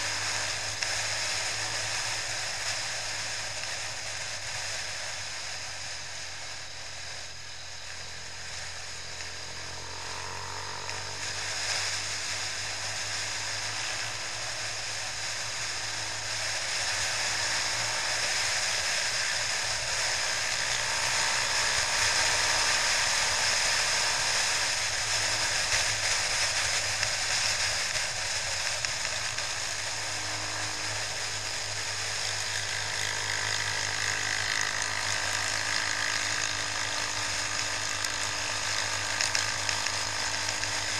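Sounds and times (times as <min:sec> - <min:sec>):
motorcycle engine hum: 0:00.0 - 0:40.9.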